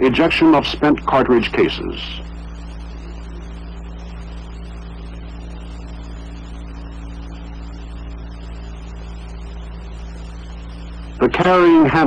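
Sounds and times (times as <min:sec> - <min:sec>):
film soundtrack hiss: 0:00.0 - 0:12.0
low hum: 0:00.0 - 0:12.0.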